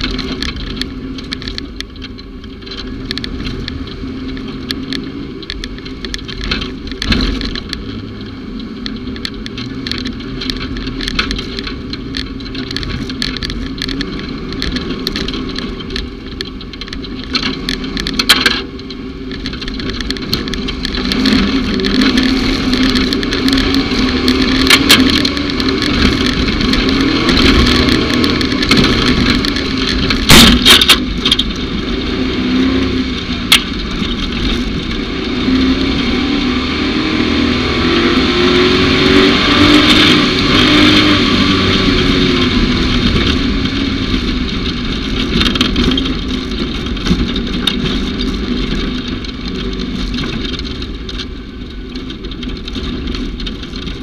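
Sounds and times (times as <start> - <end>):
knocks and rattles: 0.0 - 54.0
off-road vehicle engine running: 0.0 - 54.0.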